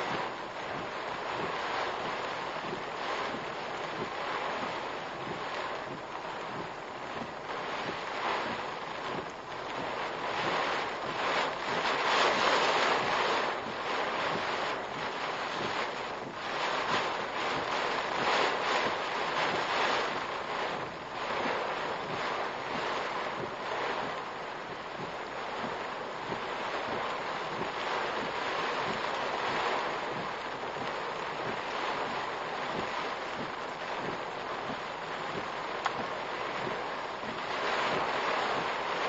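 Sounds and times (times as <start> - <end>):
wind and rain beating on a car: 0.0 - 39.0.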